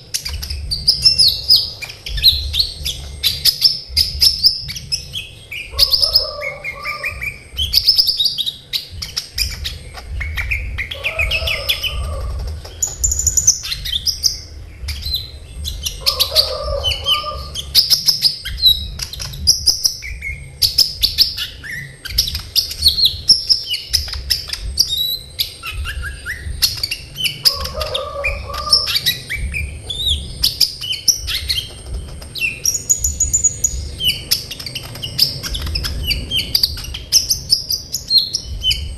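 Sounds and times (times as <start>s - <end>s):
bird chirping and trilling: 0.0s - 38.9s
lower bird call: 0.2s - 38.9s.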